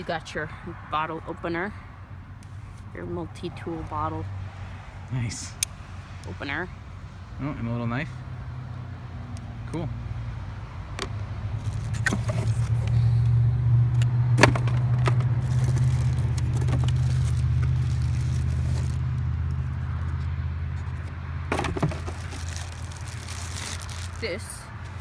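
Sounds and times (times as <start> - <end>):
motor vehicle passing: 1.5 - 25.0.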